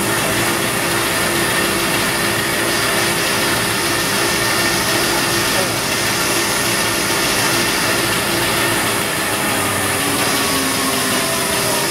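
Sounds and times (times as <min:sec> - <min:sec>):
machine hiss and hum: 0:00.0 - 0:11.9
machine whining tones: 0:00.0 - 0:11.9.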